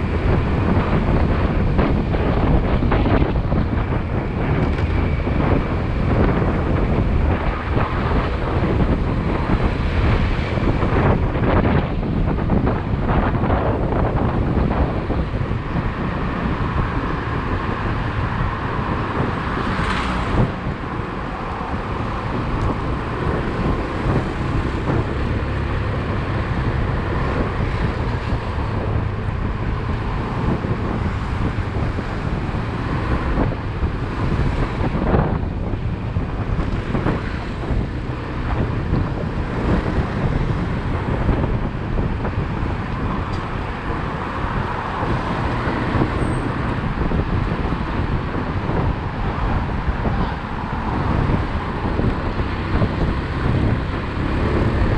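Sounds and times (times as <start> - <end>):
traffic: 0.0 - 54.9
wind rushing over microphone: 0.0 - 54.9.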